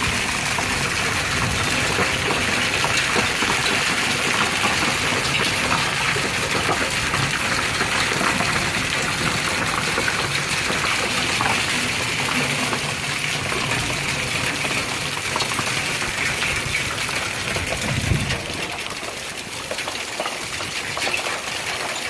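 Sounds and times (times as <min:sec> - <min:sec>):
rainwater gushing: 0:00.0 - 0:22.0.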